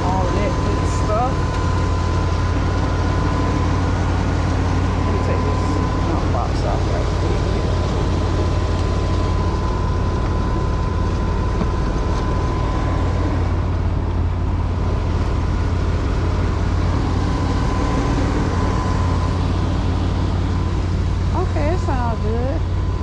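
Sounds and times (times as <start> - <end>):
engine idling: 0.0 - 23.0
thin steady whine: 0.0 - 23.0.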